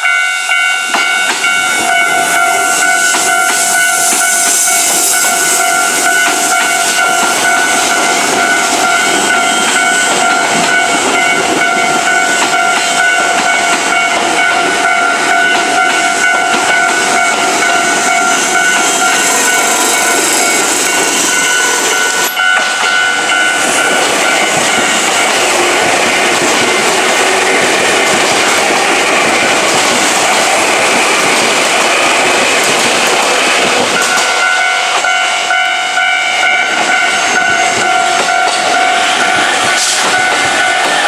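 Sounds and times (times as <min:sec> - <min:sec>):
level crossing warning bell: 0:00.0 - 0:31.0, 0:33.7 - 0:41.0
passing train running noise: 0:00.0 - 0:41.0.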